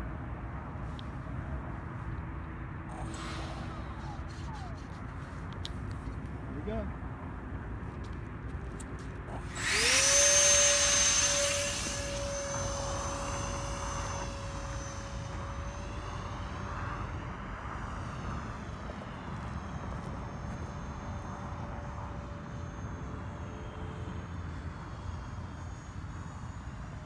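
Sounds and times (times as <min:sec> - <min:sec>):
electric ducted fan whine: 0:00.0 - 0:27.0.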